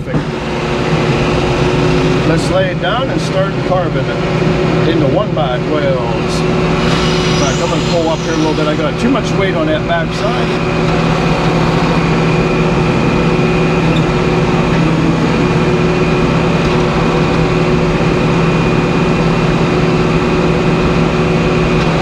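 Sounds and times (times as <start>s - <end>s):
sawmill machinery drone: 0.1s - 22.0s.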